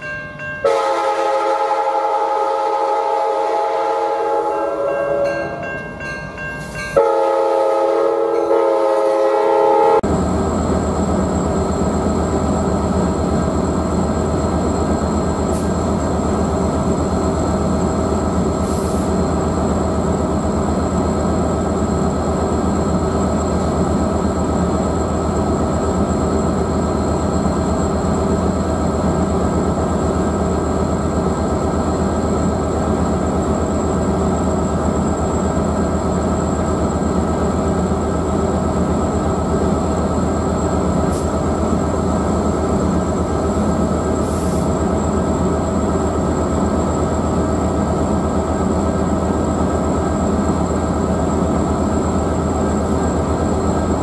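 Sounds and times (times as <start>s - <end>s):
diesel train engine droning: 0.0s - 54.0s.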